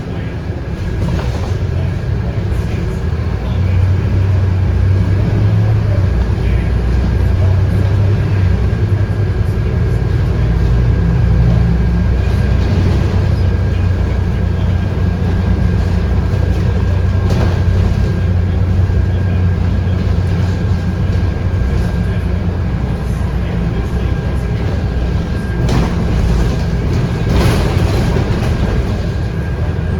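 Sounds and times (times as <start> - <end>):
bus diesel engine drone: 0.0 - 29.9.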